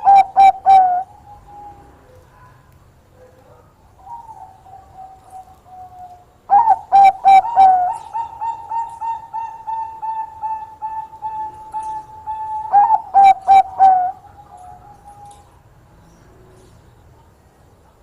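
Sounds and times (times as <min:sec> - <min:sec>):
dove cooing: 0:00.0 - 0:15.6.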